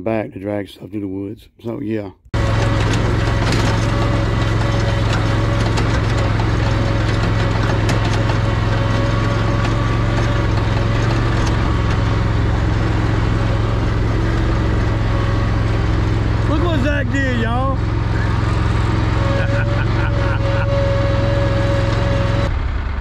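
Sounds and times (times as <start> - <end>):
mower engine running: 2.3 - 23.0.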